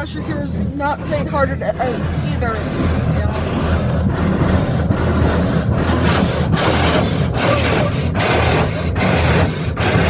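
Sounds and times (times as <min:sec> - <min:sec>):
water jets spraying car: 0:00.0 - 0:10.0.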